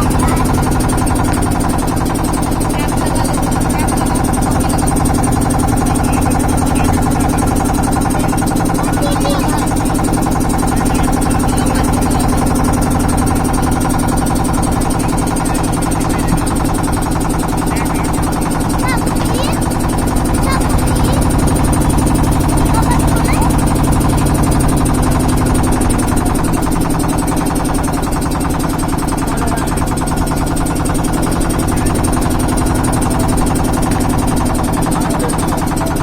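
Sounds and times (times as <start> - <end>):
motor hum: 0.0 - 36.0.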